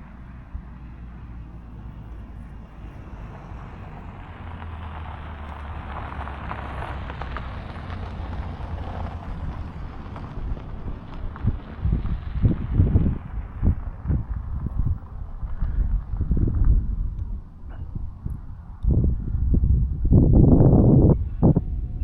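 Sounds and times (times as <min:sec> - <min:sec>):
low rumble: 0:00.0 - 0:22.0
wind rushing over microphone: 0:00.0 - 0:22.0.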